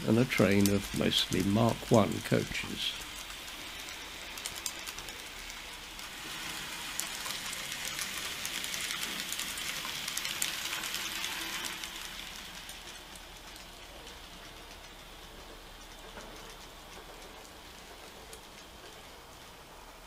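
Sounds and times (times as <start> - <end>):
model train wheels rattling: 0.0 - 20.0.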